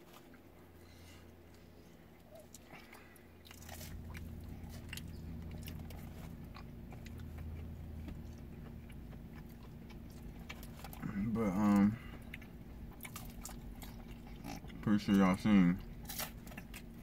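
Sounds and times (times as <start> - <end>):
low steady hum: 0.0 - 17.0
people chewing pizza: 0.0 - 17.0.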